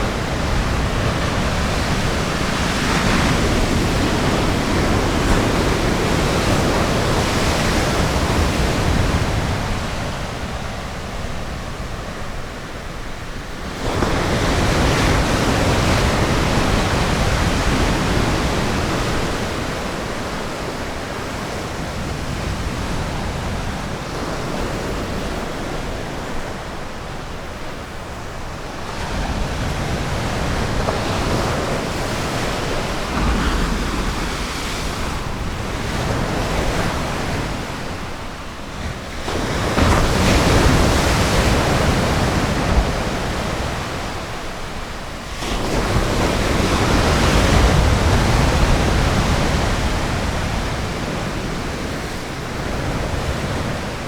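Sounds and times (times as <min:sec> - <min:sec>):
ocean surf breaking on beach: 0:00.0 - 0:54.0.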